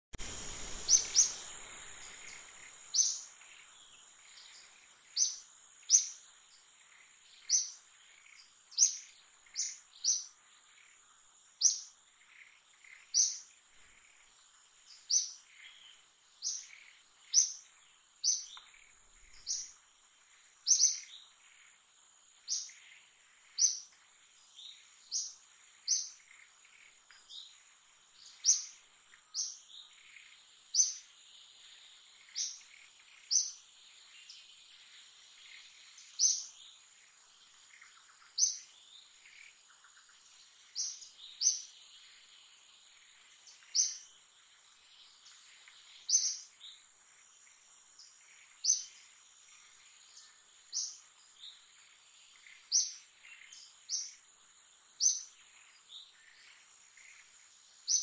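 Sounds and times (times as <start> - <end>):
bird chirping: 0.2 - 58.0.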